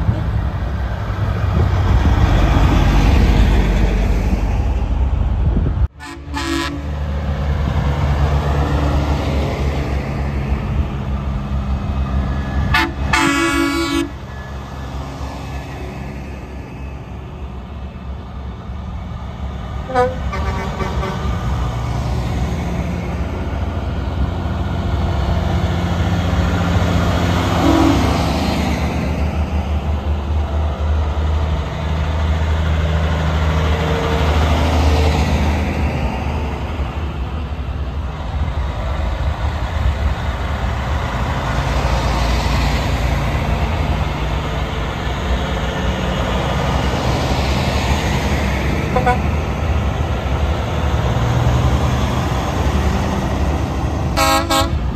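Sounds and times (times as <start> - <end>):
diesel trucks driving past: 0.0 - 54.9.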